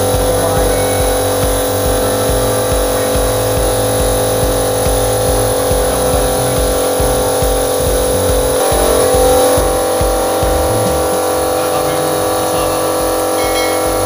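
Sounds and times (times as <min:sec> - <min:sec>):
air compressor droning: 0:00.0 - 0:14.0.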